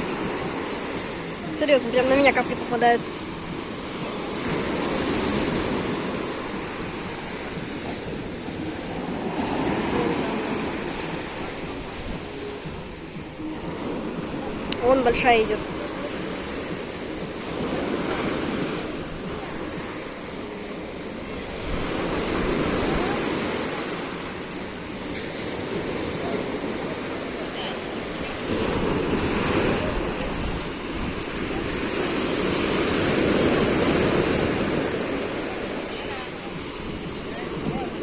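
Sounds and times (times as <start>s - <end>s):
sea waves breaking on shore: 0.0s - 38.0s.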